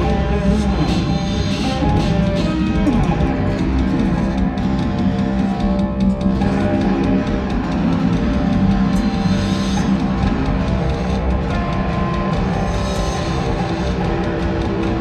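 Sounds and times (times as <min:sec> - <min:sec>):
metal electric guitar jam: 0:00.0 - 0:15.0.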